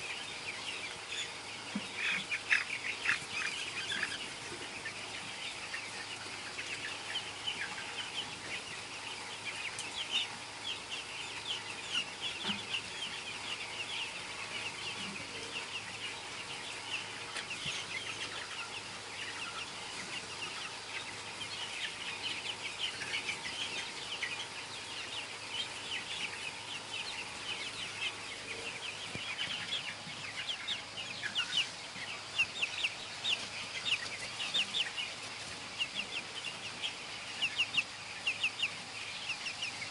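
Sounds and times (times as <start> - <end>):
chicks peeping and chirping: 0.0 - 39.9.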